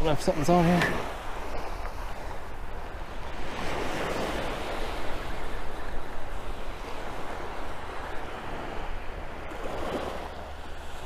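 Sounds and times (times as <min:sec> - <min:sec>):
surf waves on sandy beach: 0:00.0 - 0:11.0
wind rumbling on microphone: 0:00.0 - 0:11.0.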